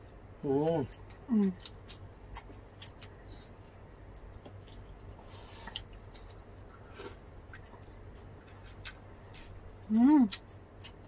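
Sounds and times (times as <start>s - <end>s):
steady low hum: 0.0s - 11.0s
wet chewing and lip smacks: 0.9s - 11.0s.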